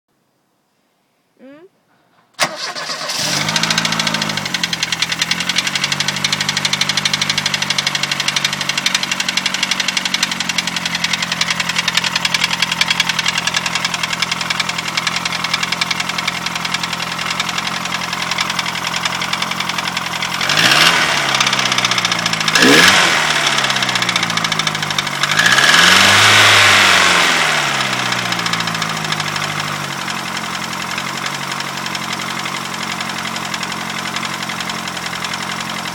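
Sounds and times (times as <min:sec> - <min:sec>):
engine revving: 0:02.4 - 0:35.9
car engine idling with knock: 0:03.6 - 0:26.9, 0:27.8 - 0:35.9.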